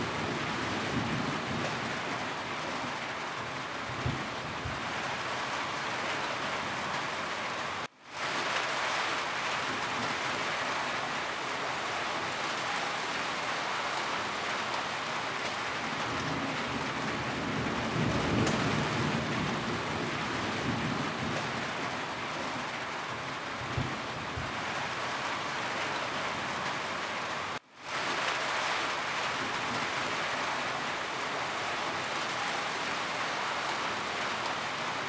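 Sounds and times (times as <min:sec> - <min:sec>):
rain falling on a roof: 0:00.0 - 0:35.0.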